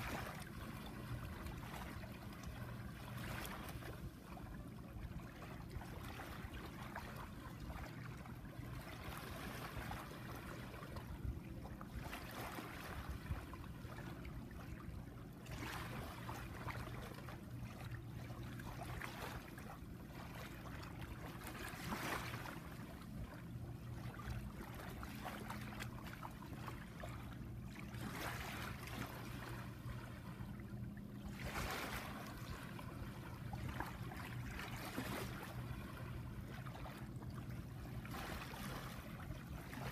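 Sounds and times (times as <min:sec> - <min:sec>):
steady low hum: 0:00.0 - 0:39.9
water lapping over sand: 0:00.0 - 0:39.9.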